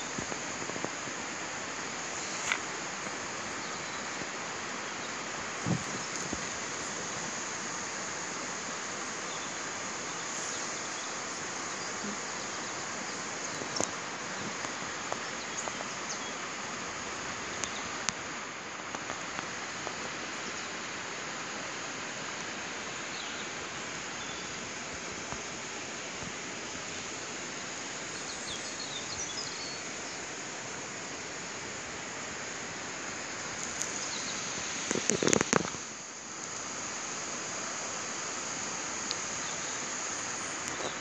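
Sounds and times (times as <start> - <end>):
stream rushing: 0.0 - 41.0.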